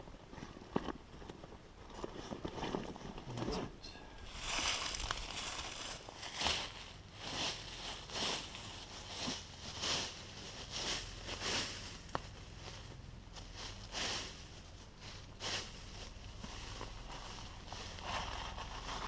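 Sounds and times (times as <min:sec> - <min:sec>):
tent and camping gear rustling: 0:00.2 - 0:19.0.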